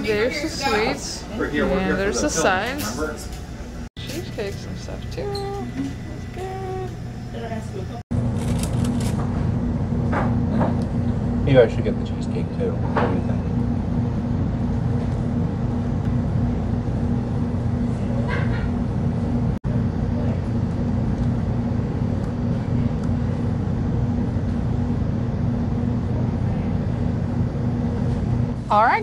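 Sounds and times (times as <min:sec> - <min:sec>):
restaurant background hum: 0:00.0 - 0:29.0.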